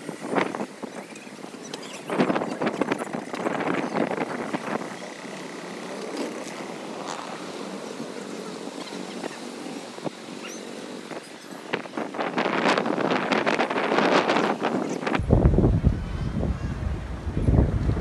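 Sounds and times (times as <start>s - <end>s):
traffic noise: 0.0s - 18.0s
passers-by: 0.1s - 18.0s.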